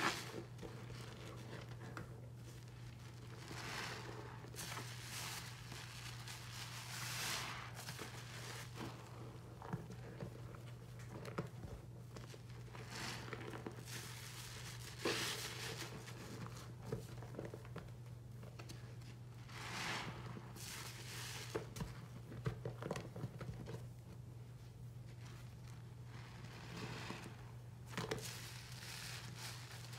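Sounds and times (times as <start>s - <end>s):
soapy sponge squeezed squishing: 0.0s - 29.9s.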